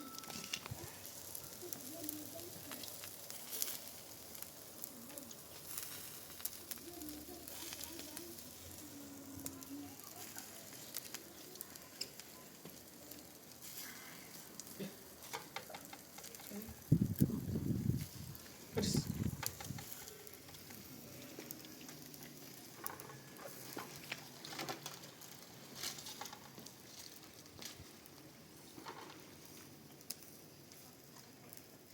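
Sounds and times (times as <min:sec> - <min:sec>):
wood fire crackling and hissing: 0:00.0 - 0:31.9.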